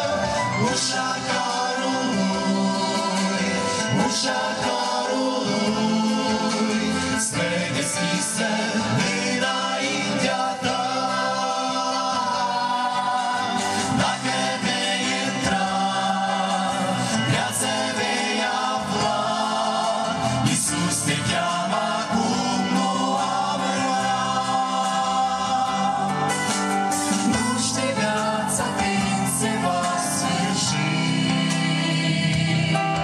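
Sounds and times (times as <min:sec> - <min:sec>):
group singing a hymn through pa: 0:00.0 - 0:33.0.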